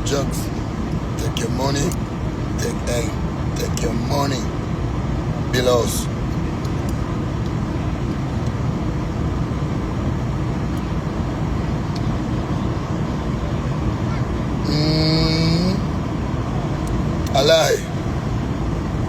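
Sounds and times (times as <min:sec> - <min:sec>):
vehicle cabin rumble and hiss: 0:00.0 - 0:19.0.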